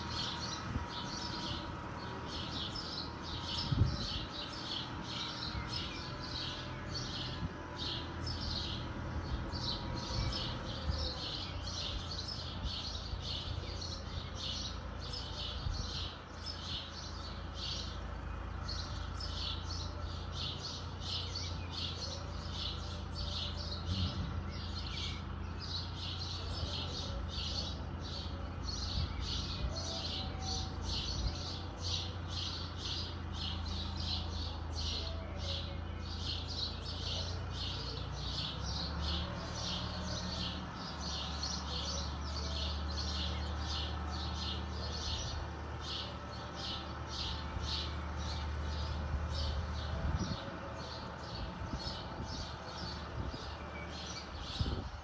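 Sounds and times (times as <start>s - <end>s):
bird chirping rhythmically: 0.0s - 55.0s
distant tractor drone: 0.0s - 55.0s.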